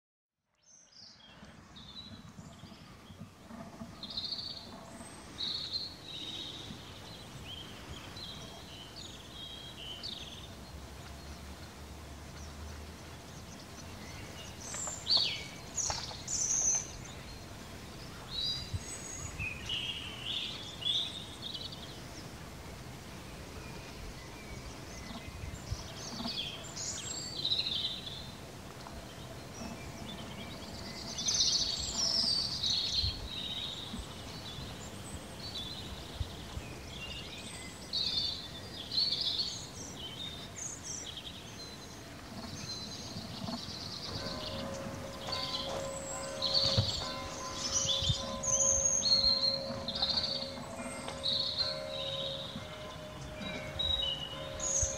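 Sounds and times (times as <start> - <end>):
small birds singing and chirping: 0.6 - 22.4, 23.2 - 54.9
low background noise: 0.7 - 54.9.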